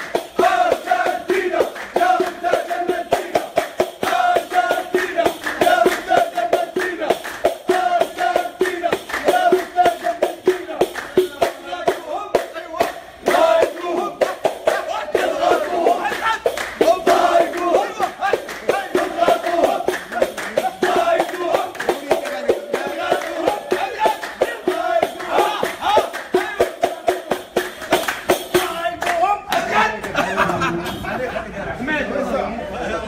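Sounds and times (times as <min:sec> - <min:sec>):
rhythmic hand clapping: 0:00.0 - 0:31.0
men singing: 0:00.1 - 0:30.1.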